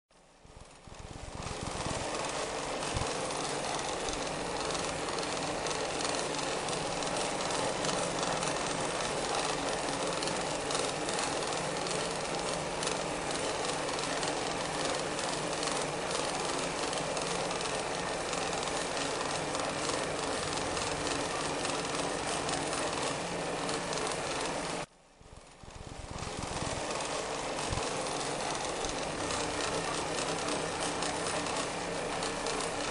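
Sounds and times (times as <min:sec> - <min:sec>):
sewing machine clattering: 0:01.4 - 0:24.9, 0:26.2 - 0:32.9.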